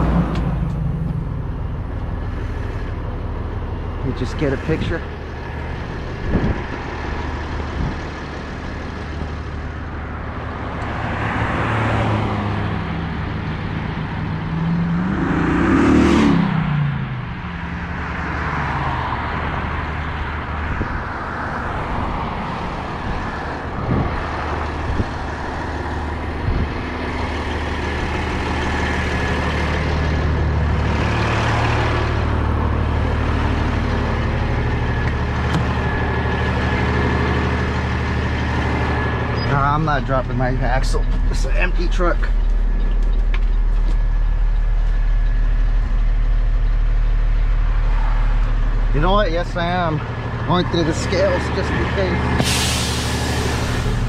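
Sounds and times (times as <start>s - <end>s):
diesel engine idling: 0.0s - 15.7s, 16.5s - 54.0s
traffic passing: 0.0s - 54.0s.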